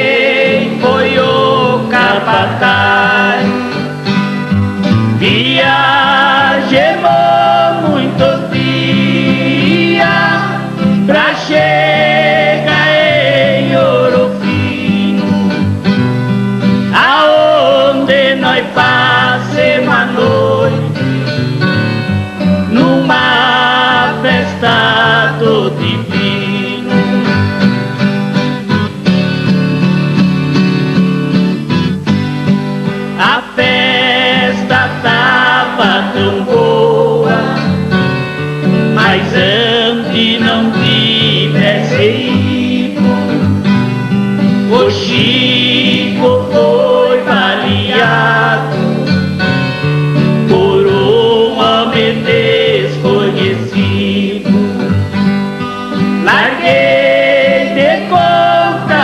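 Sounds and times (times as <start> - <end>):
two men singing with vibrato: 0.0 - 16.0, 16.6 - 27.7, 33.0 - 59.0
strummed acoustic guitars: 0.0 - 59.0.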